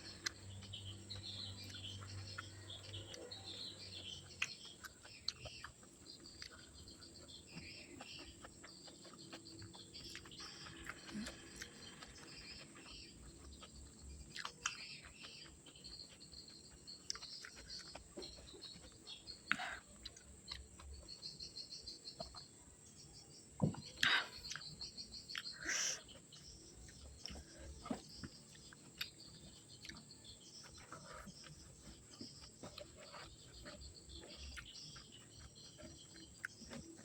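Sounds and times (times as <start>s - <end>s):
person chewing: 0.0s - 22.6s, 23.8s - 37.0s
birds and insects chirping: 0.0s - 37.0s.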